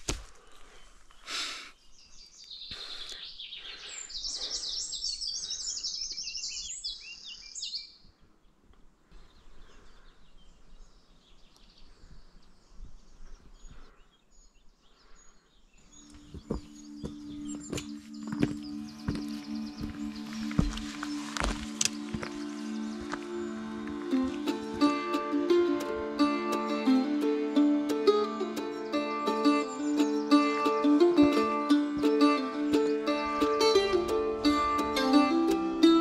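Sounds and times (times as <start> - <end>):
songbird chirping and trilling: 0.3 - 36.0.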